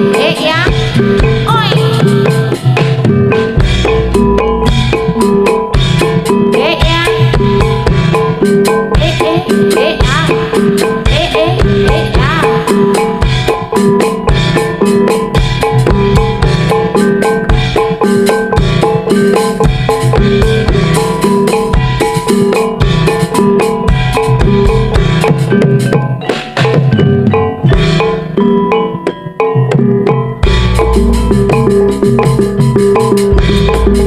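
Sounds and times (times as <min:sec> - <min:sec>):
driving hand drums: 0:00.0 - 0:34.0
gamelan music through a pa: 0:00.0 - 0:34.0
struck pitched instruments: 0:00.0 - 0:34.0.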